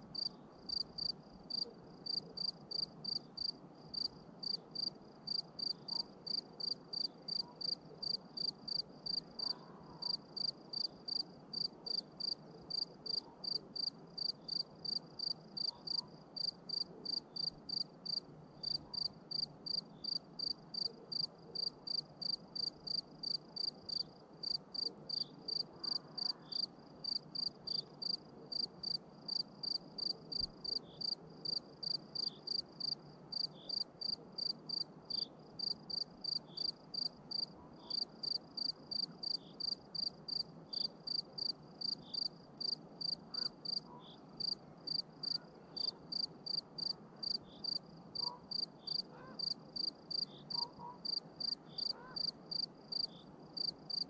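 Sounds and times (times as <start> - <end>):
faint low hiss: 0.0 - 54.0
cricket chirping: 0.2 - 54.0.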